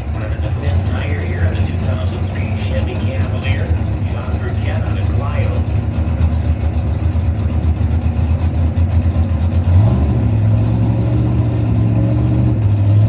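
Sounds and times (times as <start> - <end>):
drag race car engine running: 0.0 - 13.0.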